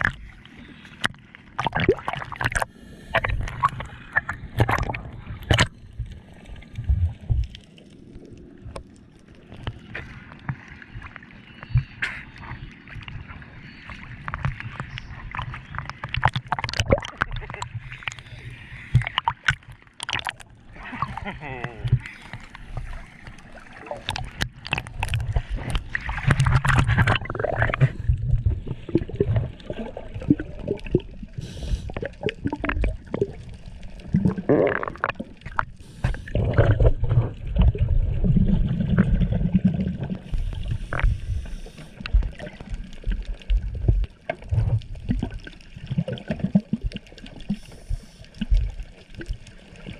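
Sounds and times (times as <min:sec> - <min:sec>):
bubbling and crackling bursts: 0:00.0 - 0:49.9
water gurgling and sloshing: 0:00.0 - 0:49.9.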